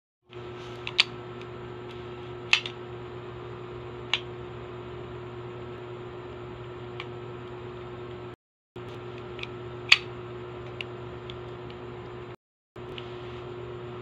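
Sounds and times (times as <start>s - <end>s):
steady low hum: 0.3s - 14.0s.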